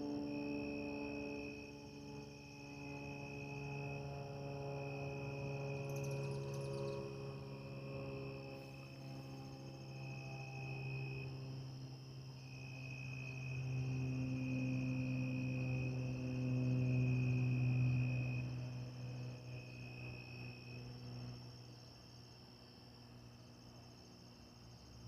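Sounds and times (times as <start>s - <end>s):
low humming drone: 0.0s - 24.2s
insects trilling: 0.0s - 25.0s.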